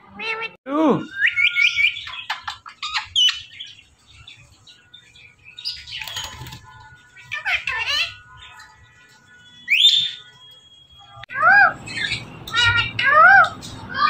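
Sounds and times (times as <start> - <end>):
parakeet chirping and whistling: 1.0 - 6.6, 7.2 - 13.6.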